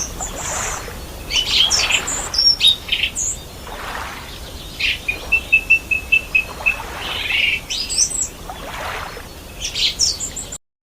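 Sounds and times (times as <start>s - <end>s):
birds chirping and calling: 0.0s - 10.6s.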